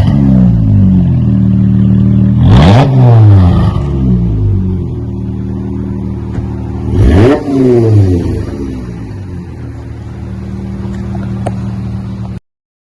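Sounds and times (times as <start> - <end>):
car exhaust revving and idling: 0.0 - 12.4.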